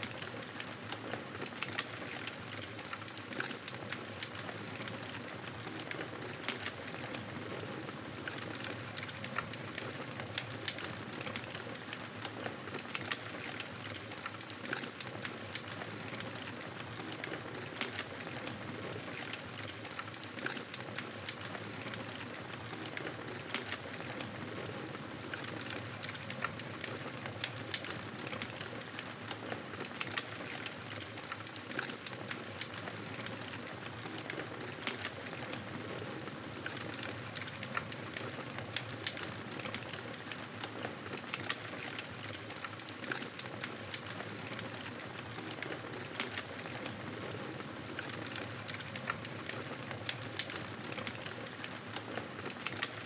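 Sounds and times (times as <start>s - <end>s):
fireplace fire crackling: 0.0s - 53.0s.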